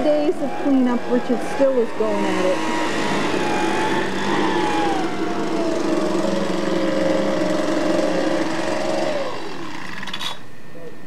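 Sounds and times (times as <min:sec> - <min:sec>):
chainsaw engine running: 0:00.0 - 0:10.4.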